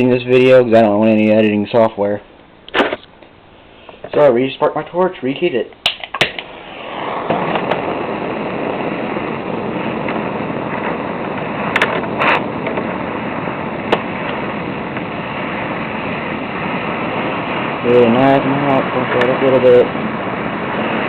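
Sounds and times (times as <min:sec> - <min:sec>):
hand torch flame hissing: 0:00.0 - 0:21.0.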